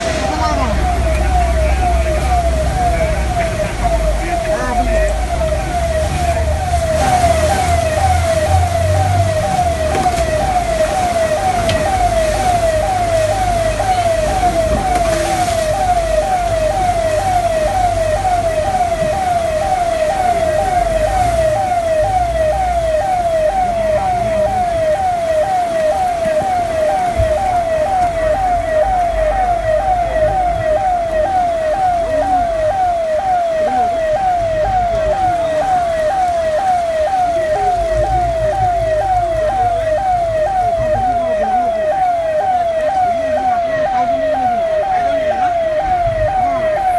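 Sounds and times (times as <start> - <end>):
electronic siren rising sweeps: 0.0 - 46.9.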